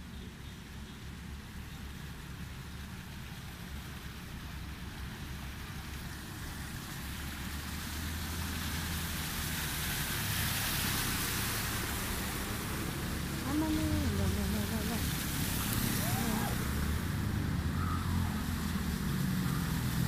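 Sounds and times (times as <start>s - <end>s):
motorcycle engines: 0.0s - 20.0s
water splashing: 0.6s - 20.0s.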